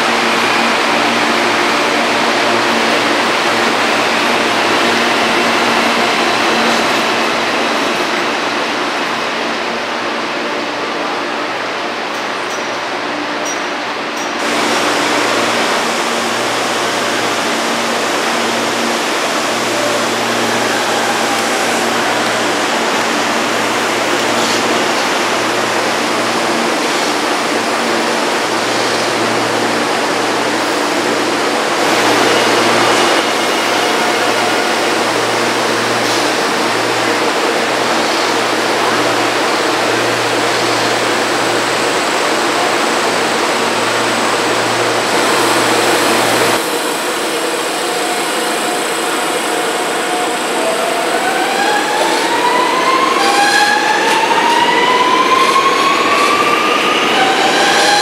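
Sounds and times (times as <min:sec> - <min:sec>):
train rushing noise: 0:00.0 - 0:58.0.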